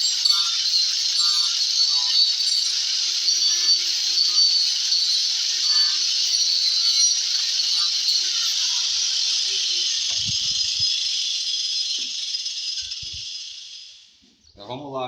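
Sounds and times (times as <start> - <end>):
power tool grinding wood: 0.0 - 14.3.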